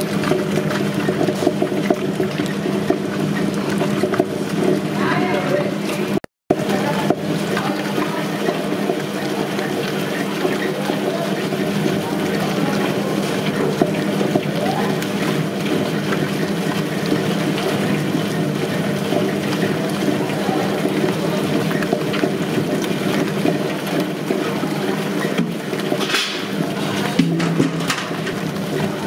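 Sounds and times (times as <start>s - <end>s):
stone roller churning batter: 0.0s - 29.0s
wet grinder motor hum: 0.0s - 29.0s.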